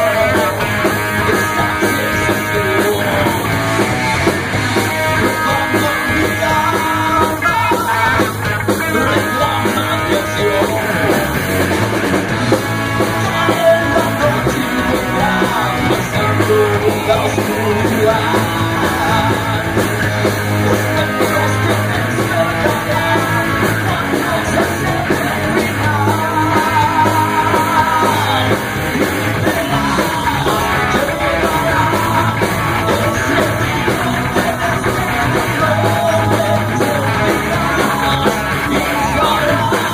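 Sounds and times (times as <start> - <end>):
bass guitar: 0.0 - 39.9
drum kit: 0.0 - 39.9
electric guitars: 0.0 - 39.9
keyboards: 0.0 - 39.9
lead singer singing: 0.0 - 39.9.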